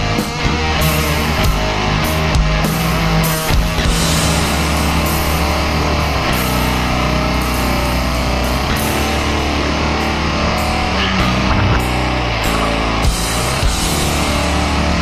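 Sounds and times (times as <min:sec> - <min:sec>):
heavy metal guitar music: 0:00.0 - 0:15.0.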